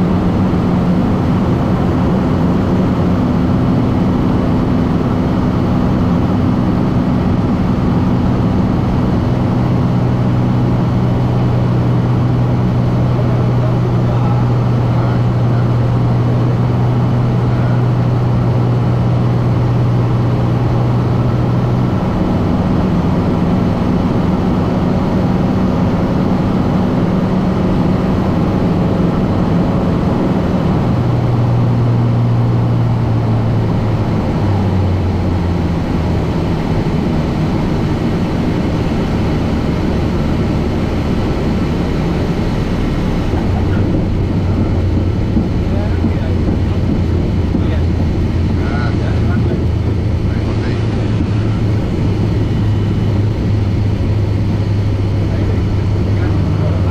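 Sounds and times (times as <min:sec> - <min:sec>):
propeller engine running: 0:00.0 - 0:56.9
steady rushing noise: 0:00.0 - 0:56.9.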